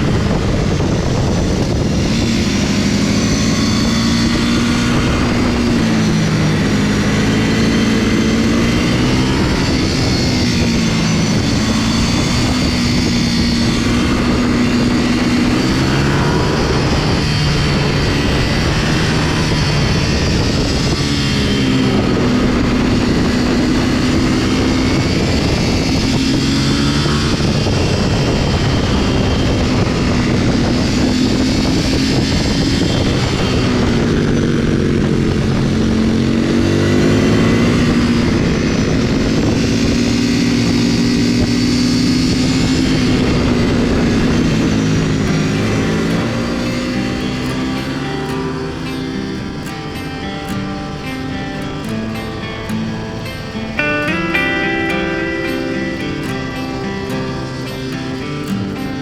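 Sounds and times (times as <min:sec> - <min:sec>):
motorcycle engine: 0:00.0 - 0:59.0
wind rushing: 0:00.0 - 0:59.0.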